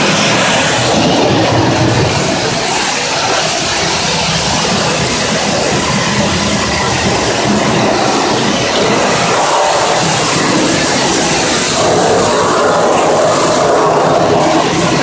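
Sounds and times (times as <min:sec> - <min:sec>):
pressure washer spraying metal: 0:00.0 - 0:15.0.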